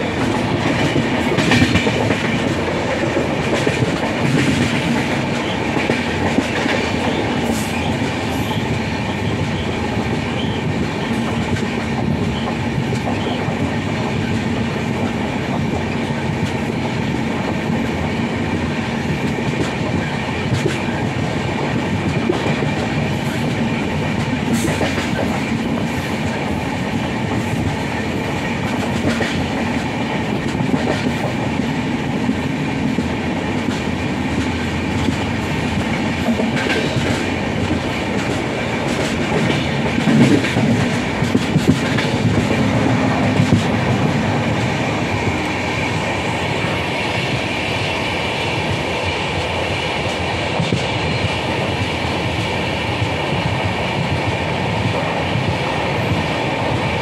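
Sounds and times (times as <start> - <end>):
clickety-clack of rail joints: 0.0 - 57.0
train wheels rumbling on rail: 0.0 - 57.0.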